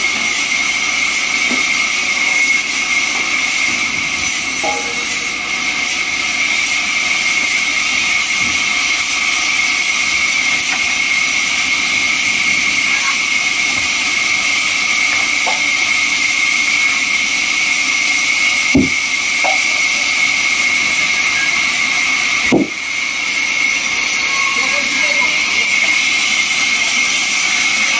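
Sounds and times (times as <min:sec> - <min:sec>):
band saw sawing wood: 0:00.0 - 0:27.9.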